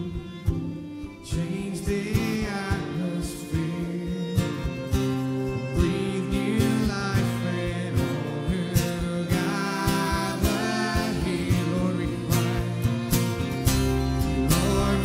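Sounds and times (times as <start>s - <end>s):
man singing: 0.0s - 0.5s, 1.1s - 13.2s, 14.2s - 15.0s
guitar: 0.0s - 15.0s.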